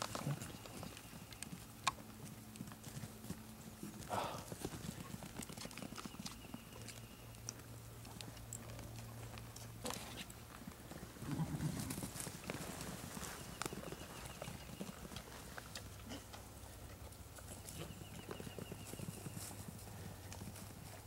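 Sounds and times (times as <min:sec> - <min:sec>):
hooves on grass: 0:00.0 - 0:21.0.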